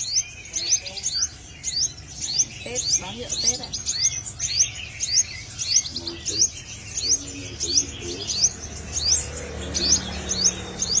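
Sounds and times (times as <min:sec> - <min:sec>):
bird high-pitched rising chirps: 0:00.0 - 0:11.0.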